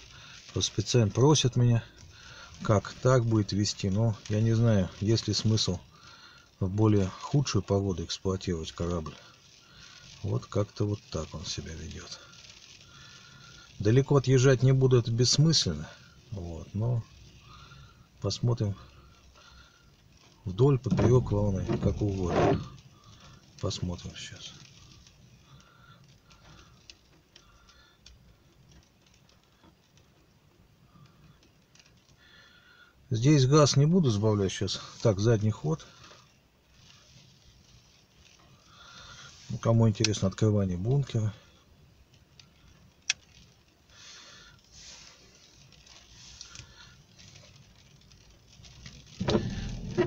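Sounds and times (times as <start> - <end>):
raindrops pattering: 0.0 - 50.0.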